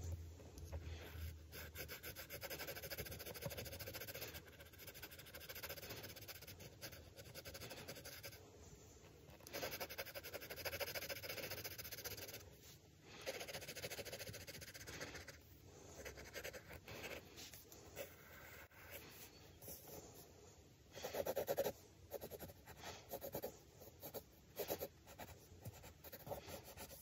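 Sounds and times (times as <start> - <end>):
pencil scratching on paper: 0.7 - 8.4, 9.3 - 12.5, 13.1 - 15.4, 16.0 - 20.0, 21.0 - 27.0.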